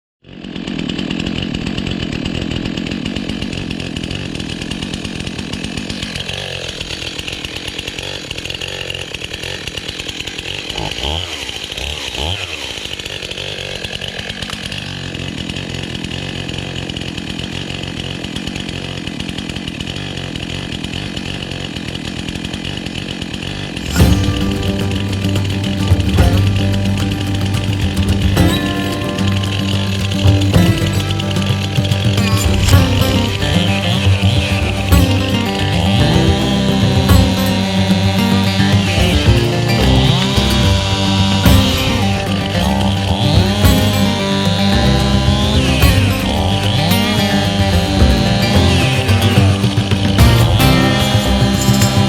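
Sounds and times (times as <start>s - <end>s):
chainsaw cutting wood: 0.2s - 52.0s.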